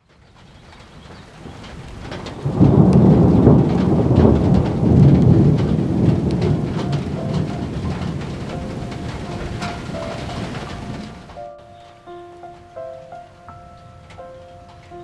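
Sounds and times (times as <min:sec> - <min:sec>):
rain falling: 0:00.0 - 0:15.0
raindrop ticks: 0:00.0 - 0:15.0
thunder rumbling: 0:00.0 - 0:15.0.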